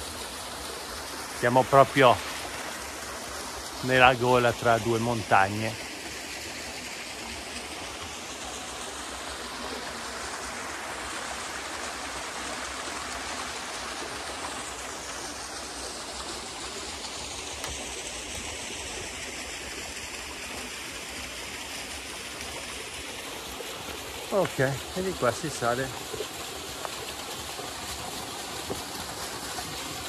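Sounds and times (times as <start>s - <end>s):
stream rushing over waterfalls: 0.0s - 30.0s.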